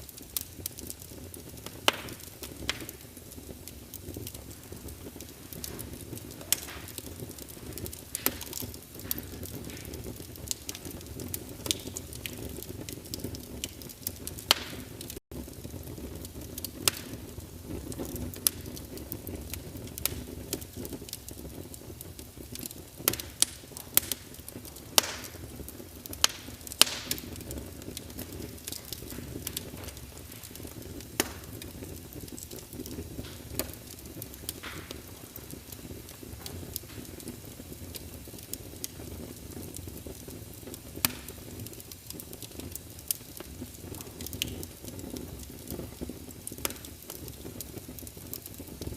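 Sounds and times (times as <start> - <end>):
fire rumbling: 0.0 - 48.9
logs crackling and popping: 0.0 - 48.9.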